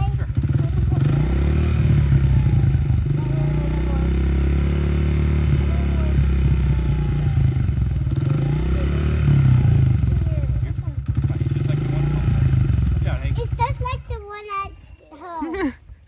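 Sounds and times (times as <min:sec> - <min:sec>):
small motorcycle engine running: 0:00.0 - 0:14.5.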